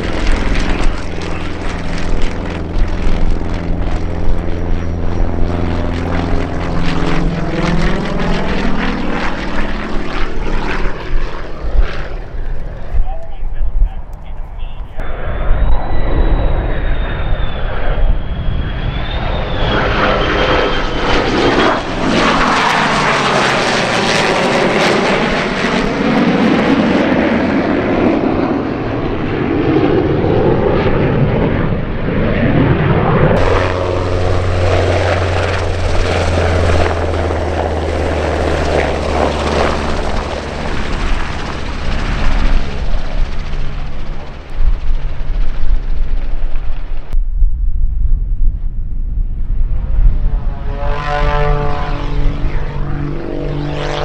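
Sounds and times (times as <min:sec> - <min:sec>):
aircraft engine drone: 0:00.0 - 0:54.0
jet and propeller plane flying past: 0:00.0 - 0:54.0.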